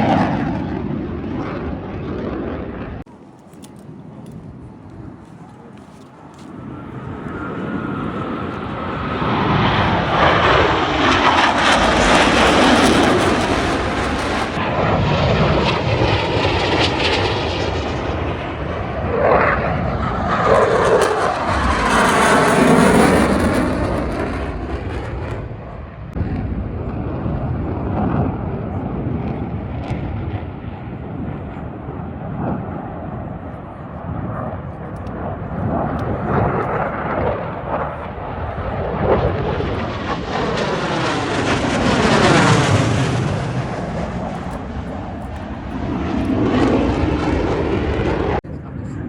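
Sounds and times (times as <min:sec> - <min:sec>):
jet engines passing: 0:00.0 - 0:49.0.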